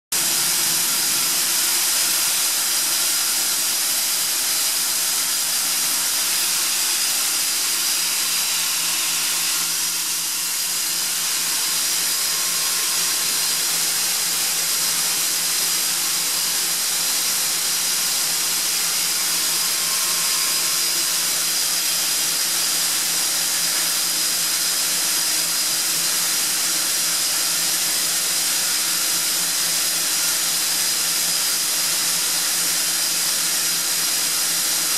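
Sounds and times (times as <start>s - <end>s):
air compressor hissing and whining: 0.2s - 34.9s.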